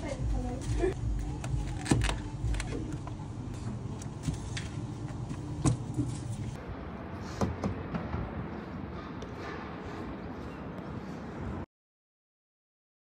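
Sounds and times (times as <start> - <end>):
street traffic: 0.0 - 11.7.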